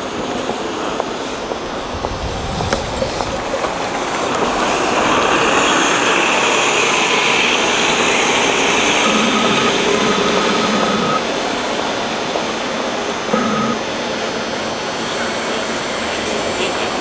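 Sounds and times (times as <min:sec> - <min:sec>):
bus passing and pulling away: 0:00.0 - 0:17.0
faint high whine: 0:01.2 - 0:15.0.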